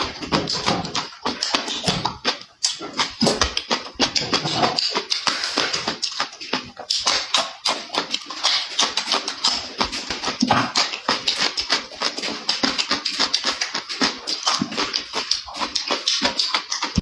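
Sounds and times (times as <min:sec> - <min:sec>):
chewing and lip smacking: 0:00.0 - 0:17.0.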